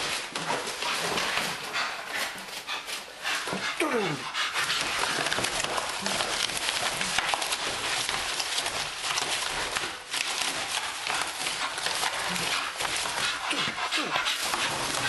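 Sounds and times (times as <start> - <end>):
dog tearing cardboard: 0.0 - 15.0.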